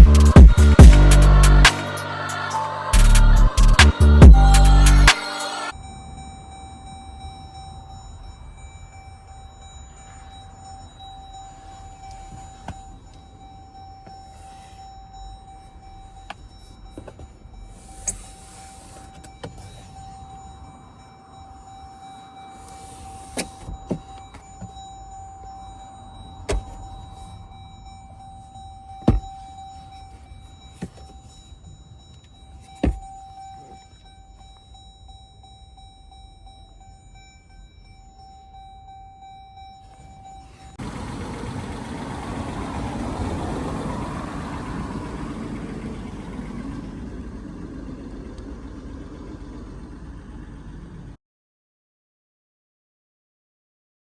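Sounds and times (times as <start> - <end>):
car engine starting and idling: 0.0 - 51.2
faint steady high tone: 0.0 - 51.2.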